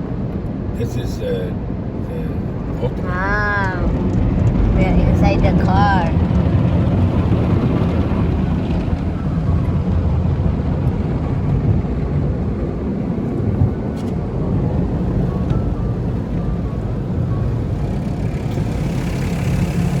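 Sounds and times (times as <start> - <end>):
car wash machinery: 3.5 - 20.0.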